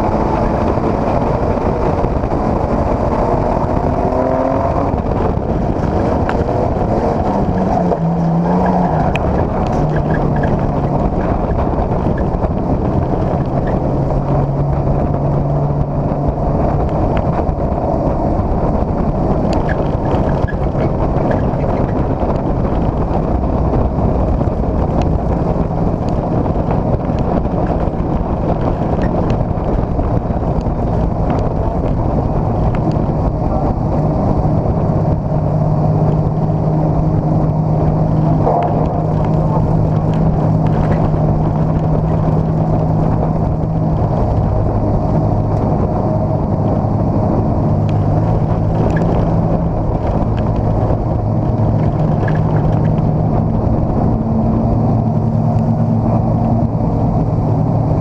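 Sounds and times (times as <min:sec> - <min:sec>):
race car engine running loud: 0:00.0 - 0:58.0.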